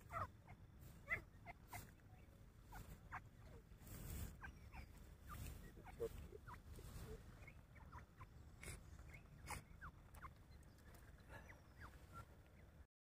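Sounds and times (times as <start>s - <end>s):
faint bird chirps: 0.0s - 12.9s.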